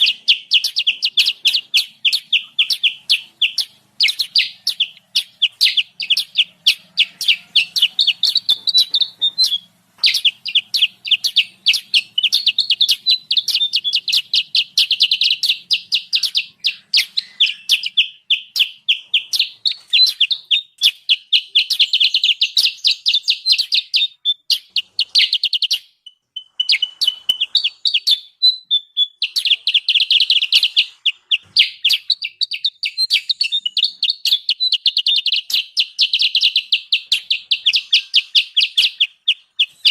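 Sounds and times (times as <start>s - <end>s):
songbirds chattering: 0.0s - 39.9s.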